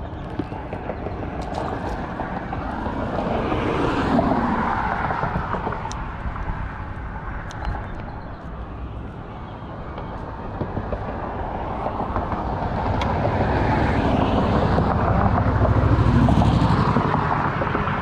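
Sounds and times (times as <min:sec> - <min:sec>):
highway traffic noise: 0:00.0 - 0:18.0.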